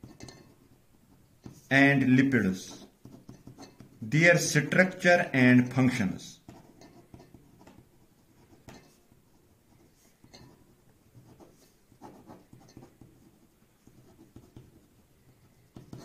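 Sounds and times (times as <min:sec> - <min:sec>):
pen scratching on paper: 0:00.0 - 0:04.5, 0:06.4 - 0:16.0.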